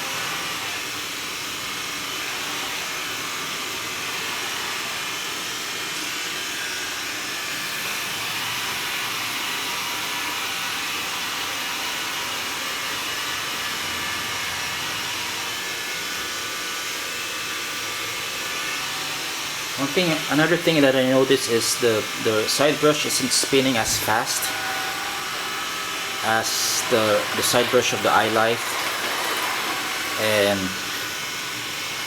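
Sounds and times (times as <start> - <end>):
robot vacuum fan whirring: 0.0 - 32.0.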